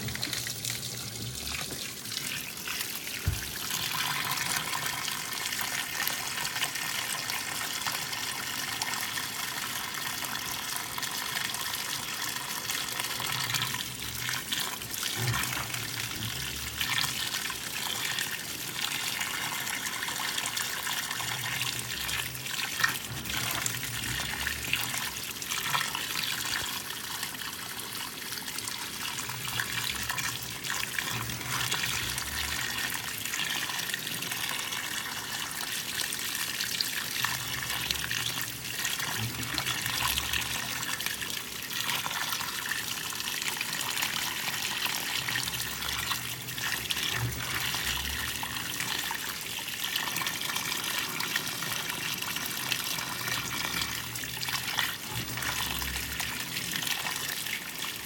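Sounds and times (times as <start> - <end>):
water pouring into washer tub: 0.0 - 58.0.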